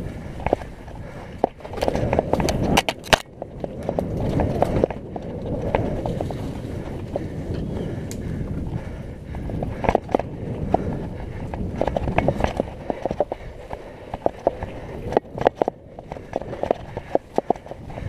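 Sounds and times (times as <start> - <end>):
bike clattering over bumps: 0.0 - 18.0
bike tyres rumbling on dirt trail: 0.0 - 18.0.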